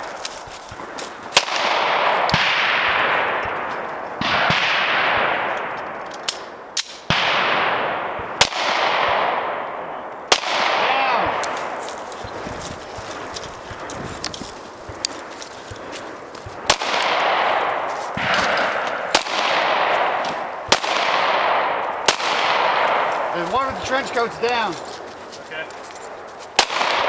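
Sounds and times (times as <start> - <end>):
pistol shots: 0.7 - 14.0, 14.8 - 24.7, 26.1 - 27.0.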